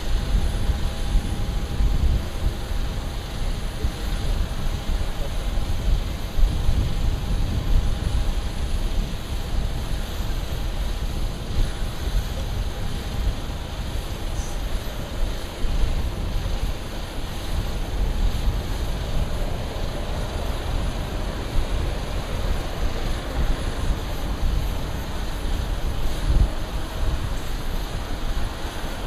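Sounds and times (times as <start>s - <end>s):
jet engines rumbling with whine: 0.0s - 29.0s.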